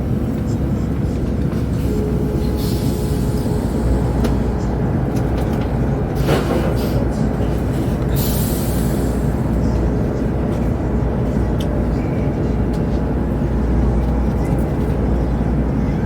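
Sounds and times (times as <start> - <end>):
train wheels and air rumbling: 0.0 - 16.0.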